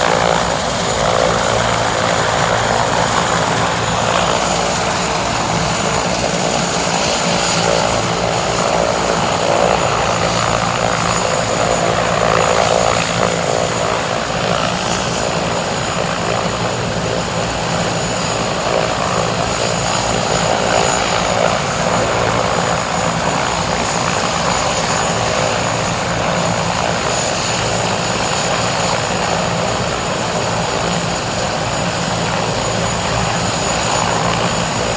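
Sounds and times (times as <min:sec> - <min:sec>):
helicopter rotor running: 0:00.0 - 0:34.9
high-pitched turbine whine: 0:00.0 - 0:34.9.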